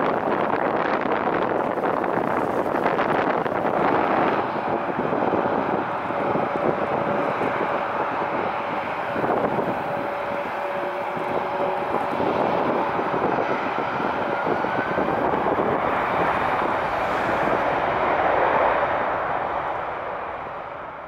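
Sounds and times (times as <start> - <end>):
jet engines roaring at takeoff: 0.0 - 21.0
faint rising whine: 2.8 - 21.0.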